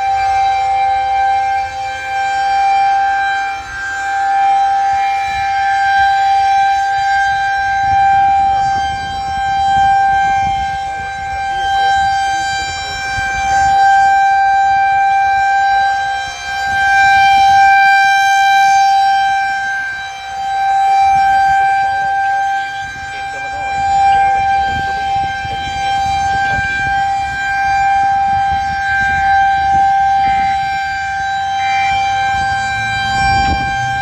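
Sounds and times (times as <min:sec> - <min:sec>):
rotating warning siren: 0:00.0 - 0:34.0.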